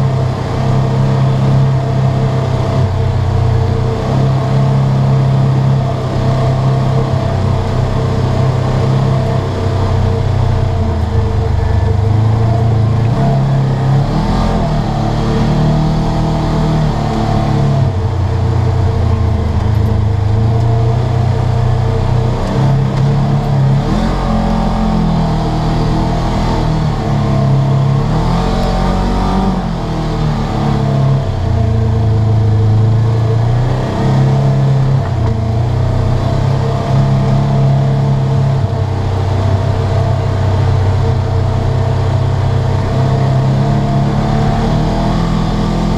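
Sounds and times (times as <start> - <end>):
vehicle engine revving: 0.0 - 45.9.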